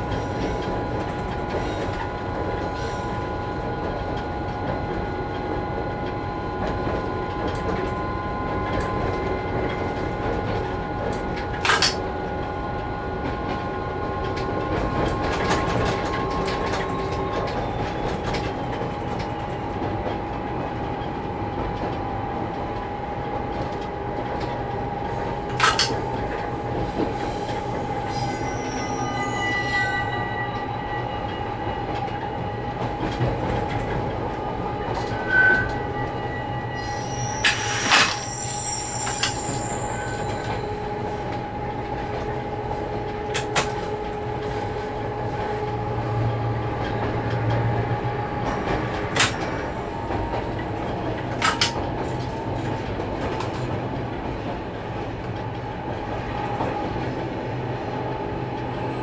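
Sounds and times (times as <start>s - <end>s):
locomotive cab running noise: 0.0s - 59.0s.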